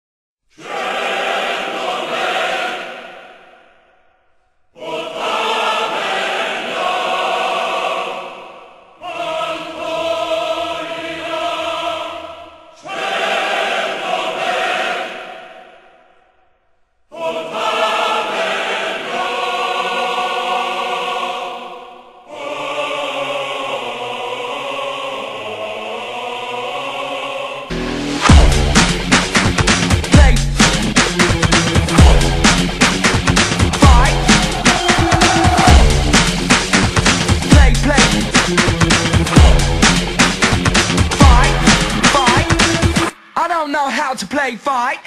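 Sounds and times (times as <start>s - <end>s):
choir singing held chords: 0.5s - 43.4s.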